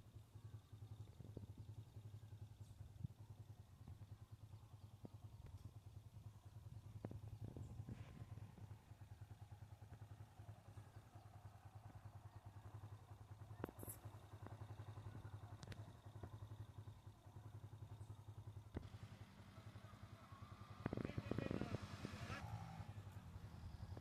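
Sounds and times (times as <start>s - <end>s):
faint pulsing engine drone: 0.0s - 24.0s.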